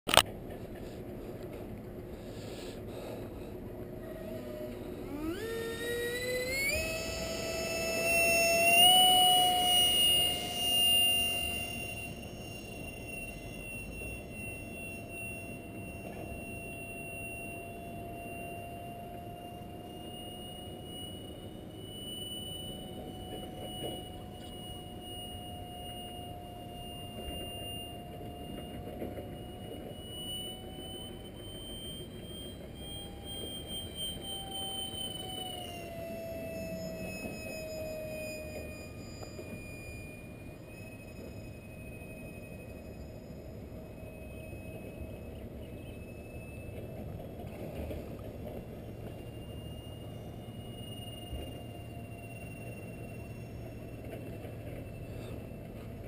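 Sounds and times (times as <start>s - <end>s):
distant airliner engine rumble: 0.1s - 56.0s
high engine whine: 0.1s - 56.0s.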